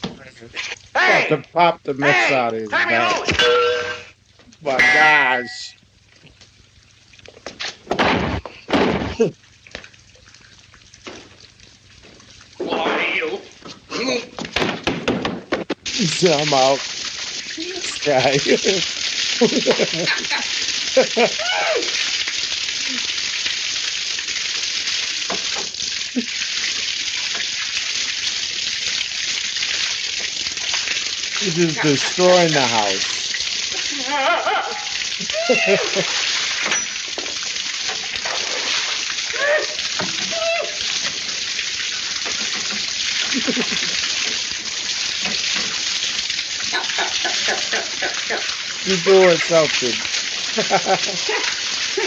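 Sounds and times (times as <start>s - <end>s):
water spraying from pipes: 0.0s - 52.0s.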